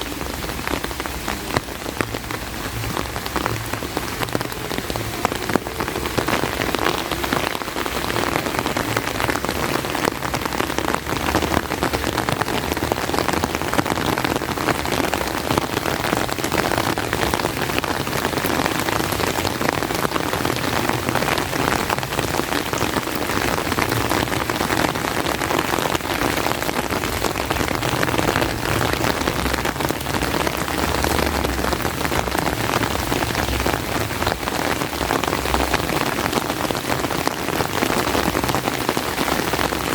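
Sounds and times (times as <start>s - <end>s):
heavy rain on umbrella: 0.0s - 39.9s.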